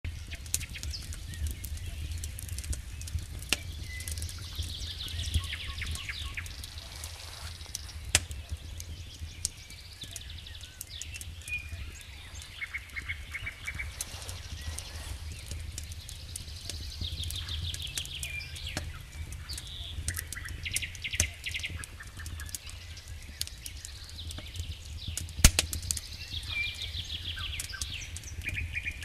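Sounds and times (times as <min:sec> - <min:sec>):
campfire crackling and popping: 0:00.0 - 0:29.0
birds chirping: 0:00.1 - 0:29.0.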